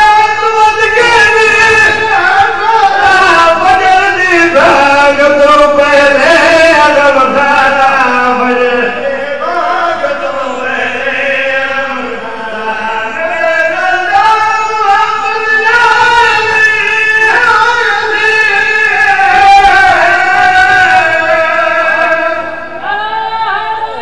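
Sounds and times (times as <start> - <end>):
men singing into microphones: 0.0 - 24.0.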